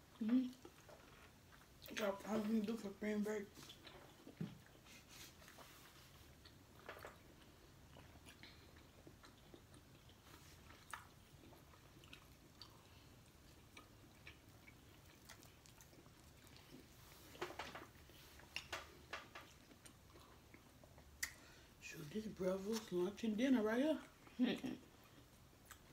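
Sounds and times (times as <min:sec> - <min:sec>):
chewing and eating: 0:00.0 - 0:23.2, 0:24.0 - 0:25.9.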